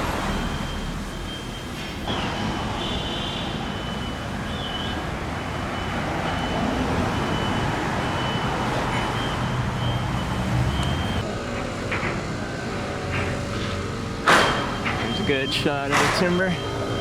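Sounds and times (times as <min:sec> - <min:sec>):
passing traffic: 0:00.0 - 0:17.0.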